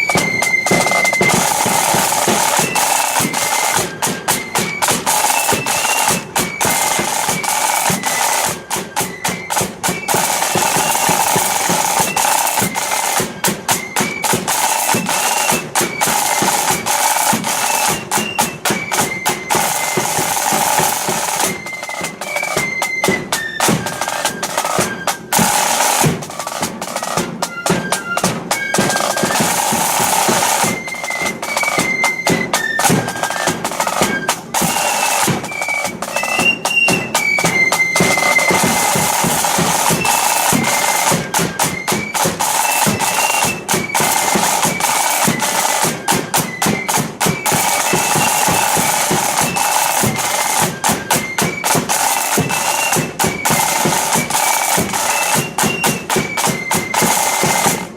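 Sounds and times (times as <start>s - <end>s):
flute melody: 0.0s - 57.9s
snare drum rolls: 0.0s - 57.9s.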